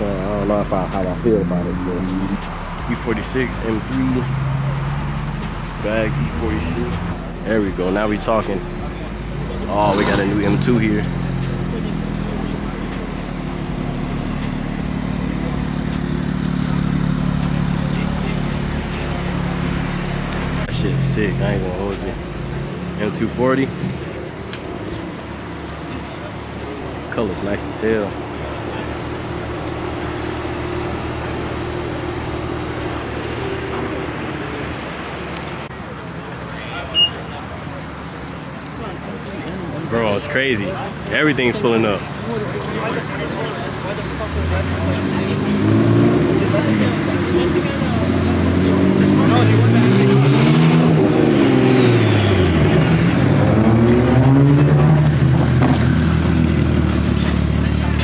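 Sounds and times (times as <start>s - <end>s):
car engine running: 0.0s - 35.8s, 39.5s - 58.0s.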